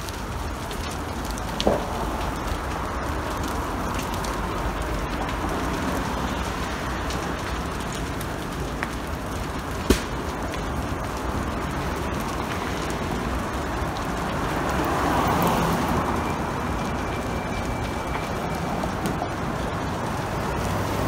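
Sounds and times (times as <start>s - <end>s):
fire popping: 0.0s - 21.0s
large fire rushing: 0.0s - 21.0s.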